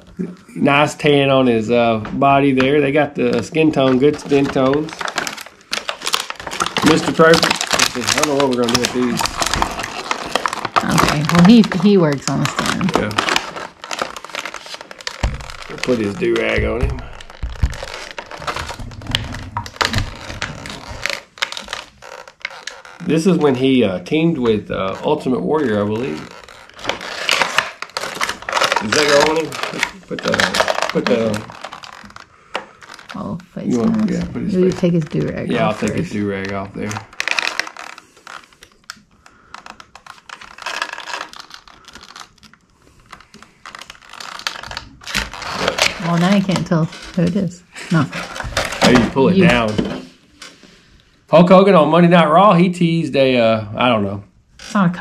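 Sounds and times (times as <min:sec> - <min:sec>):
plastic packaging crackling: 0:00.0 - 0:52.0
plastic bag crinkling: 0:01.8 - 0:51.6.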